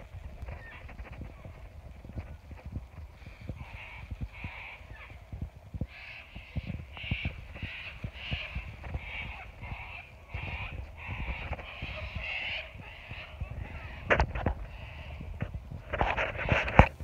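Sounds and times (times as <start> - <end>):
bird calling: 0.0 - 16.8
microphone handling noise: 0.0 - 17.0.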